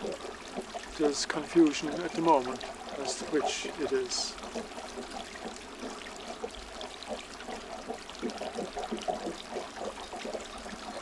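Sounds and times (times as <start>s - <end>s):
water drips and gurgles: 0.0s - 11.0s
water trickling and splashing: 0.0s - 11.0s.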